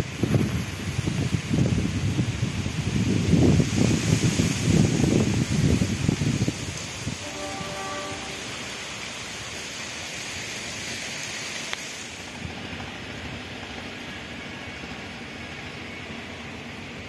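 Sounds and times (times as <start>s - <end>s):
distant train rushing: 0.0s - 17.0s.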